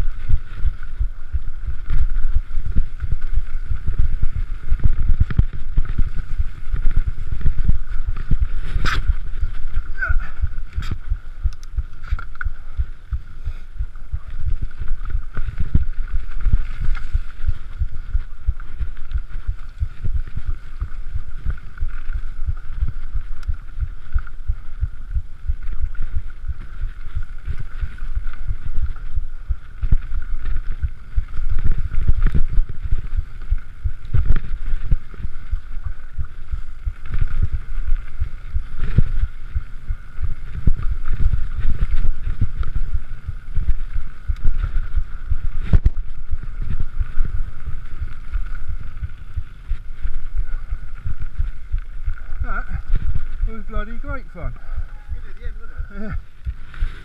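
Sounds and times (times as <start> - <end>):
bike rattling over bumpy ground: 0.0 - 57.0
wind buffeting microphone: 0.0 - 57.0.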